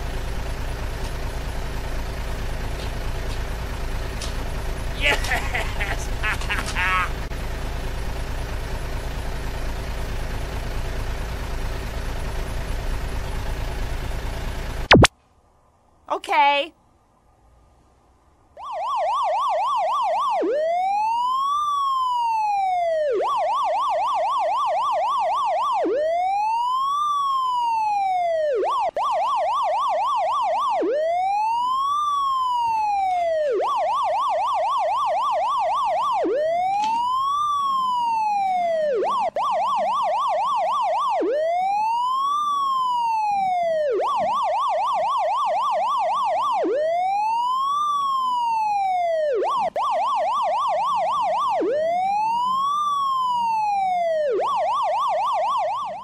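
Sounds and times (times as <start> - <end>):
emergency vehicle siren: 0.0 - 15.1, 18.6 - 56.0.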